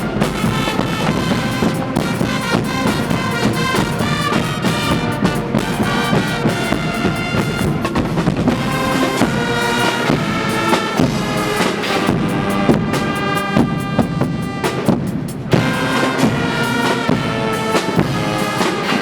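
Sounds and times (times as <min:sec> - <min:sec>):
bass drum and drum kit beat: 0:00.0 - 0:19.0
loud brass band: 0:00.0 - 0:19.0.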